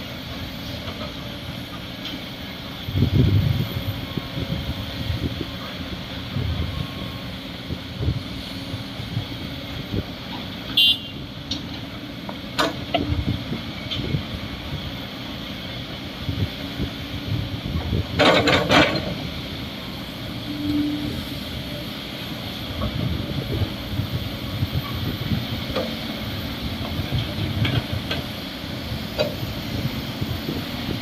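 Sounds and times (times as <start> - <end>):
bulldozer diesel engine rumble: 0.0 - 31.0.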